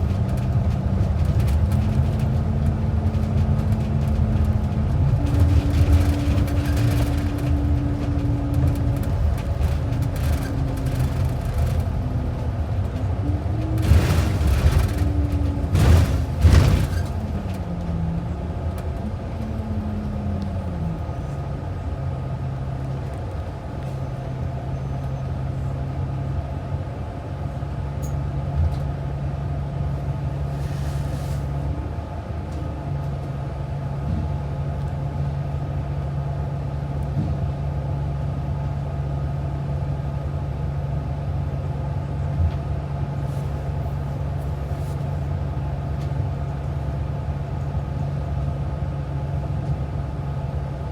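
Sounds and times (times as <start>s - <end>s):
bus engine running: 0.0s - 50.9s
road noise: 0.0s - 50.9s.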